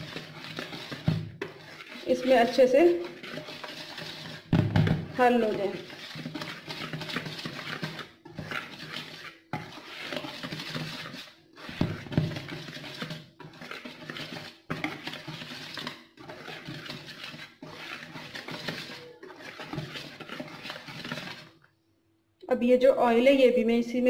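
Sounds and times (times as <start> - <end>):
wire whisk stirring flour: 0.0 - 21.6.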